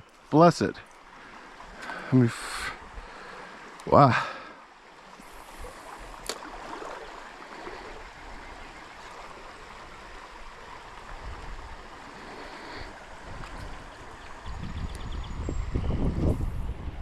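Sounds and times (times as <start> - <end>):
stream water rushing: 0.0 - 16.4.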